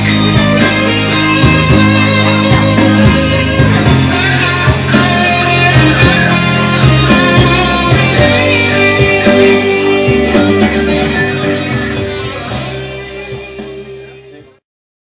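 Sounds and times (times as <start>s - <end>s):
bass line: 0.0s - 14.6s
electric guitar: 0.0s - 14.6s.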